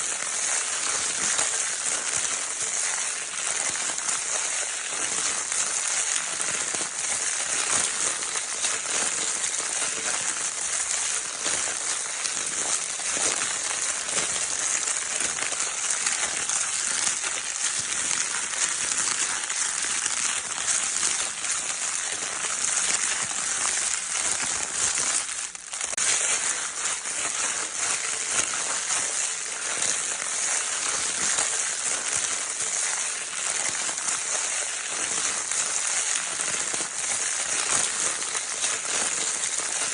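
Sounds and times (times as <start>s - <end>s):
crinkle paper scrunched: 0.0s - 39.9s.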